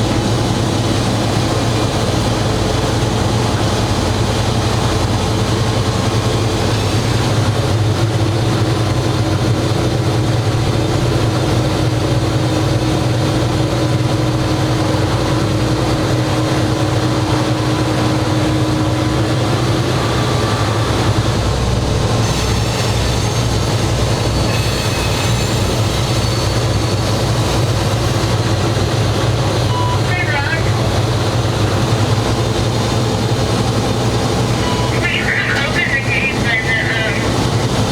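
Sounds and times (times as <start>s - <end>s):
locomotive engine hum: 0.0s - 37.9s
rail and running noise: 0.0s - 37.9s.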